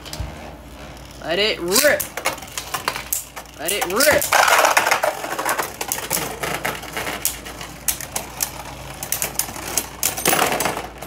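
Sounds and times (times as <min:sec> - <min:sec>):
spinning tops whirring and clashing: 0:01.7 - 0:11.0.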